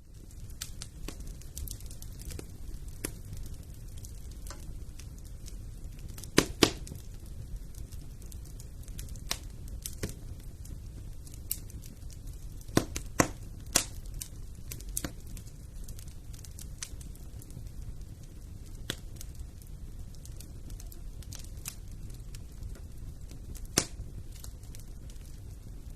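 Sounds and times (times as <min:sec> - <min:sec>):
wood fire crackling: 0:00.0 - 0:25.9
sharp fire pops: 0:00.1 - 0:25.9.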